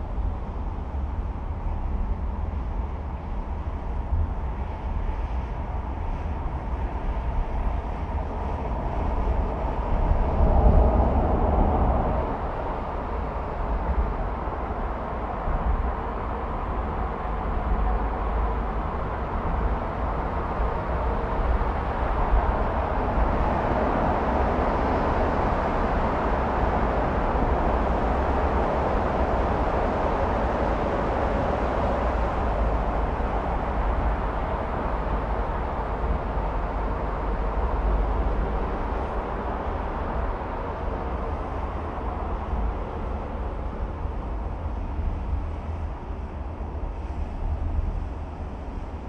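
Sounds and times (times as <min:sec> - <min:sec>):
city traffic noise: 0:00.0 - 0:49.0.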